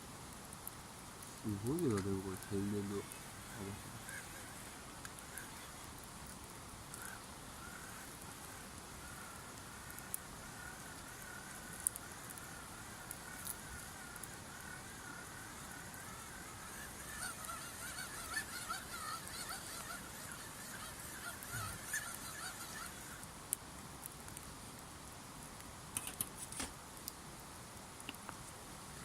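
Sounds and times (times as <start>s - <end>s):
campfire burning: 0.0s - 29.0s
fire crackles: 0.0s - 29.0s.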